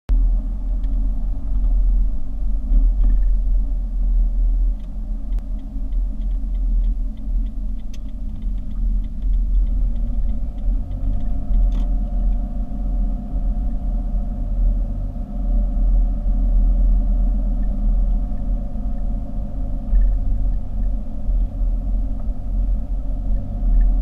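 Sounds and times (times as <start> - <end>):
car engine and road noise: 0.1 - 24.0.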